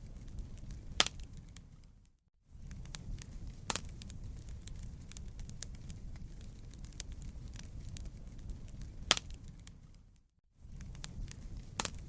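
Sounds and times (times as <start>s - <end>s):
sharp fire pops: 0.0s - 1.9s, 2.6s - 10.0s, 10.6s - 12.0s
wood fire crackling: 0.0s - 12.0s.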